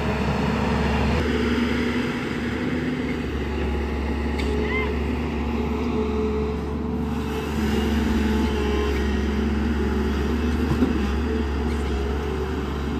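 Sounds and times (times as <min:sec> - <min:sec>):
excavator diesel engine running: 0:00.0 - 0:12.9.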